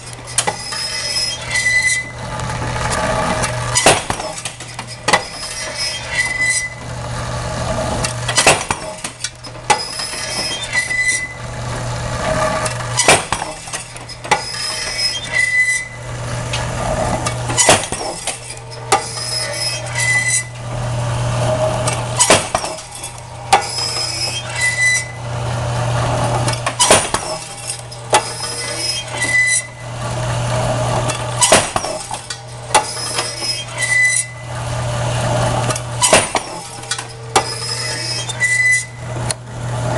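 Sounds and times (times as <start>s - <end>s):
machine drive humming: 0.0s - 39.9s.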